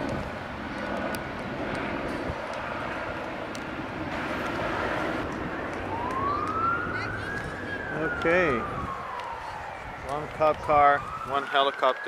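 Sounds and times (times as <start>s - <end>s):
helicopter engine and rotor drone: 0.0s - 12.0s
police siren rising: 0.0s - 12.0s.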